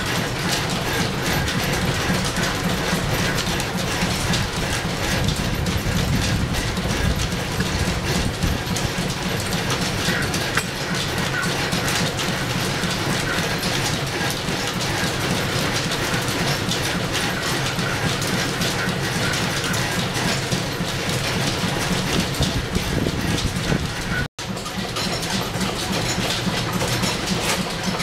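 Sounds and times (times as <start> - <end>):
constant low rumble: 0.0 - 28.0
line shafting mechanical clatter: 0.0 - 28.0.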